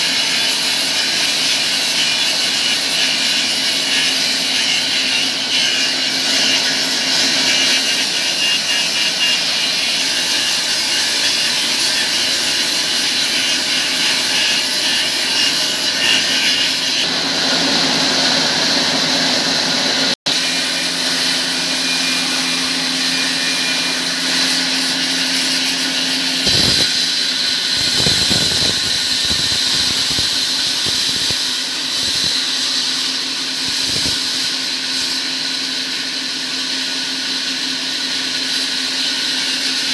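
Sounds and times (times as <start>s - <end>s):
sawmill machinery humming and whining: 0.0s - 39.9s.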